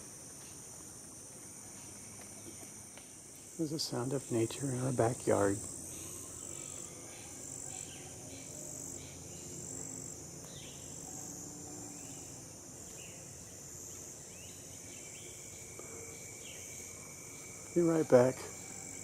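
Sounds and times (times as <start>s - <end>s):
high-pitched insect trill: 0.0s - 19.0s
frog chorus: 0.9s - 19.0s.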